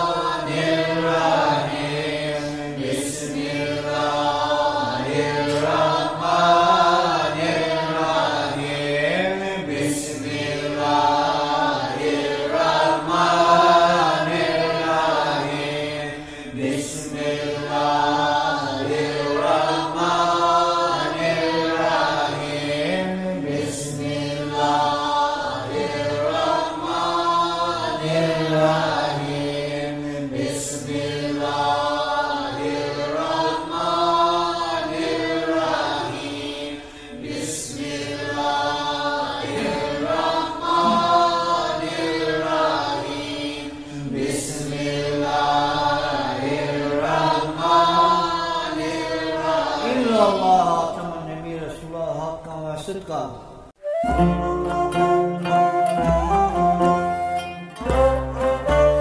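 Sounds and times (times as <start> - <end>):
group of voices chanting: 0.0 - 50.6.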